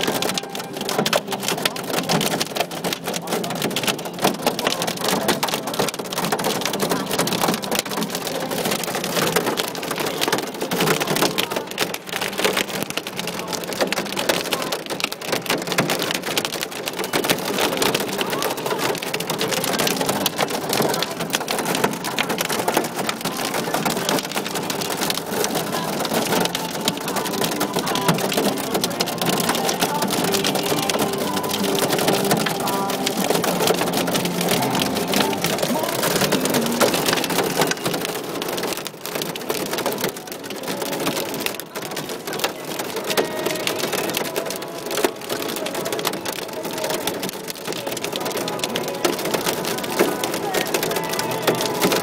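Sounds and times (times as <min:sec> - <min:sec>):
hail clattering on car: 0:00.0 - 0:52.0.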